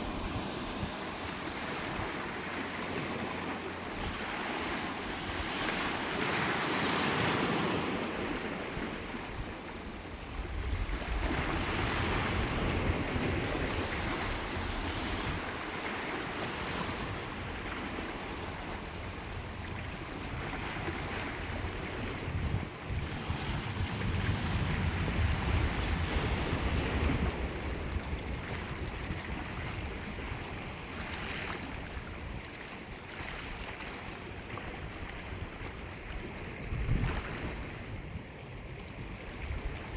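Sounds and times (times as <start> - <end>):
sea waves breaking on shore: 0.0 - 39.9
wind rumbling on microphone: 0.0 - 39.9.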